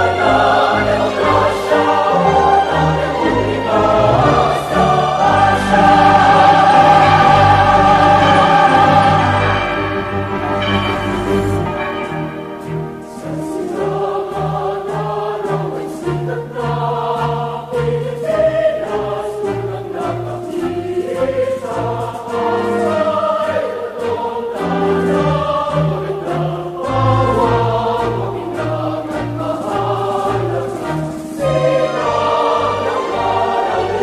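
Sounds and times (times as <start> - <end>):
choir singing: 0.0 - 34.0
held low accompanying notes: 0.0 - 34.0.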